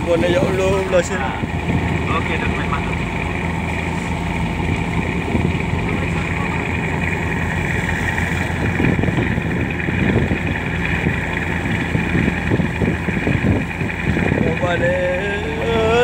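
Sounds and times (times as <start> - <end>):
boat engine humming: 0.0 - 16.0
wind and water rushing: 0.0 - 16.0.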